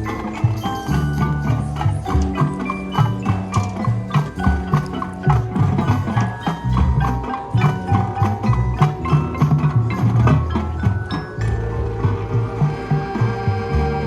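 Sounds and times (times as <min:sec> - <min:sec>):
drums: 0:00.0 - 0:14.0
mallet keyboard strikes: 0:00.0 - 0:14.0
marching band music: 0:00.0 - 0:14.0.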